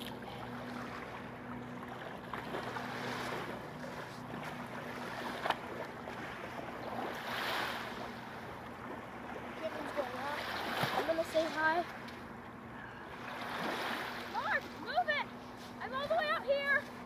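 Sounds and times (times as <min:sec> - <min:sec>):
person wading through water: 0:00.0 - 0:16.2
small waves lapping: 0:00.0 - 0:17.0.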